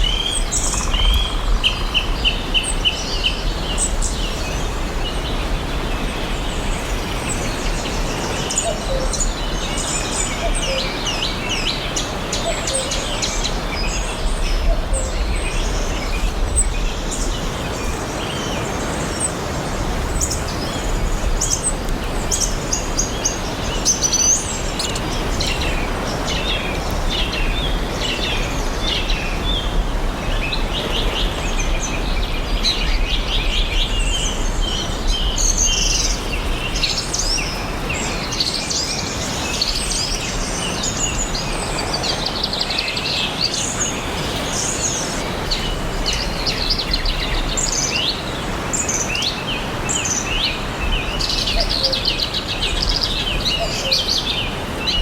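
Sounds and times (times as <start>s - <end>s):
background hiss and rumble: 0.0s - 55.0s
songbirds chirping and singing: 0.0s - 55.0s.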